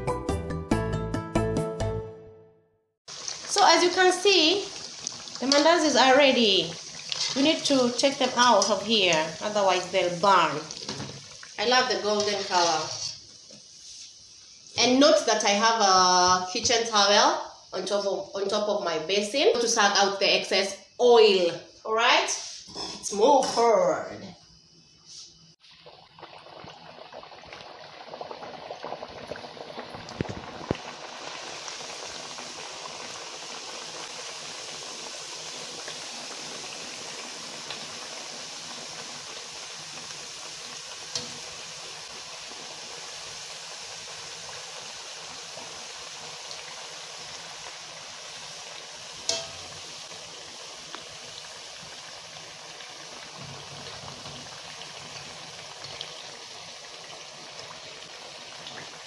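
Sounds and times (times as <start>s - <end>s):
dough sizzling in hot oil: 3.1s - 24.1s, 25.0s - 59.0s.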